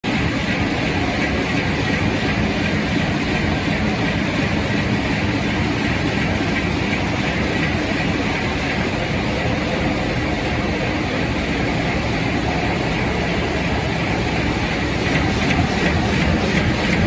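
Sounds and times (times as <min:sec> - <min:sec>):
printing press running: 0:00.0 - 0:17.0.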